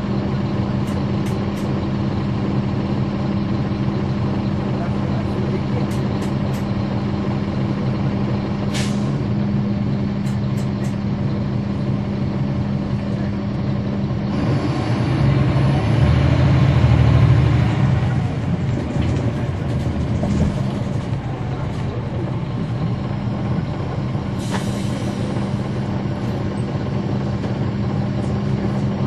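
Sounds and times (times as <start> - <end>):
bus diesel engine humming: 0.0 - 29.0.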